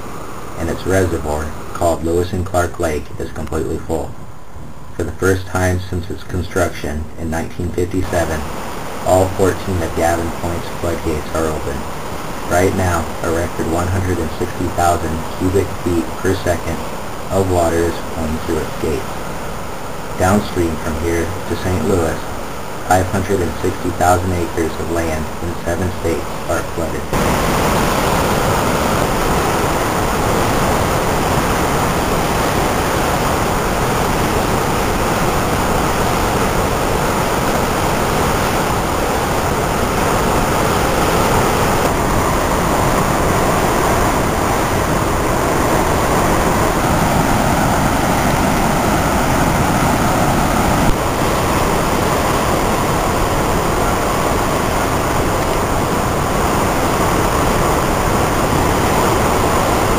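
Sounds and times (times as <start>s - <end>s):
water rushing through spillway: 5.0s - 59.9s.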